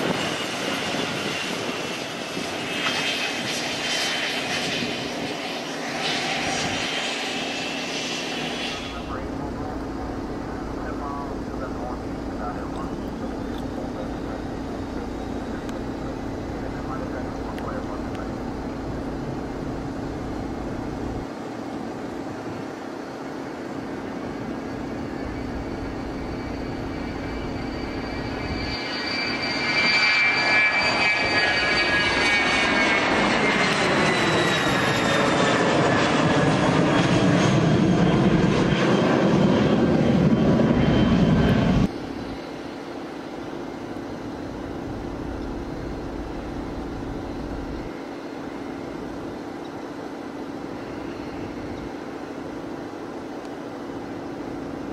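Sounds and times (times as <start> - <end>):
distant jet on approach: 0.0 - 54.9
high turbine whine: 0.0 - 54.9
jet engine roar on takeoff: 0.0 - 54.9.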